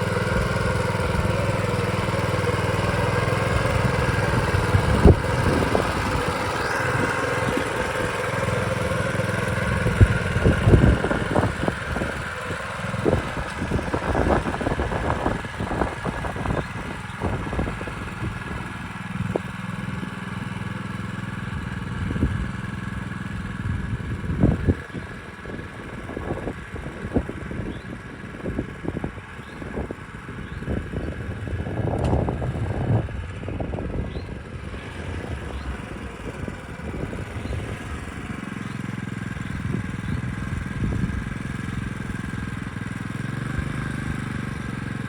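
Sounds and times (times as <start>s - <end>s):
small tractor engine running: 0.0s - 45.0s.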